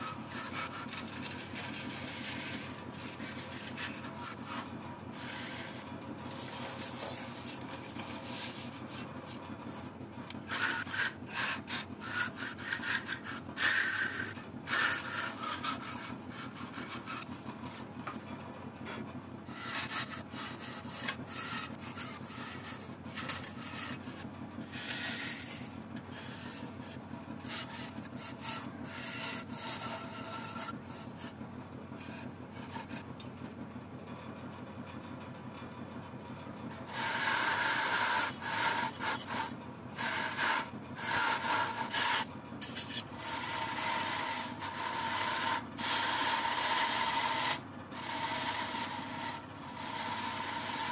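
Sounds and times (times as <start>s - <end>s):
hand tool scraping spinning wood: 0.0s - 33.4s, 36.7s - 50.9s
wood lathe humming: 0.0s - 33.5s, 36.7s - 50.9s.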